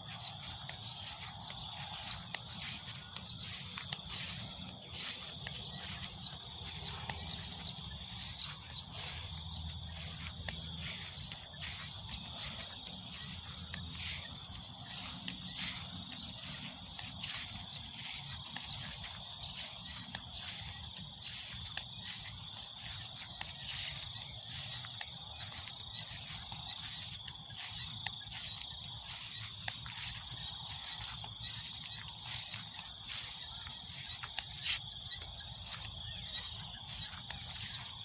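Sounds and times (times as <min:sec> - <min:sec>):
insects chorus ringing: 0:00.0 - 0:38.0.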